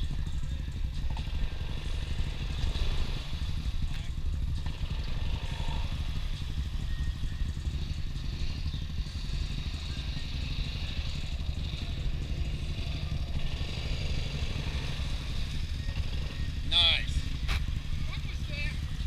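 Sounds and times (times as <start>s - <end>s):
atv engines idling: 0.0s - 19.0s.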